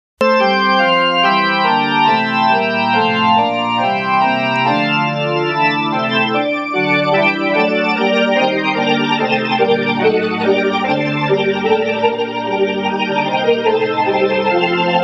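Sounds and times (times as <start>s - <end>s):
organ chords with fluttering vibrato: 0.2s - 15.0s.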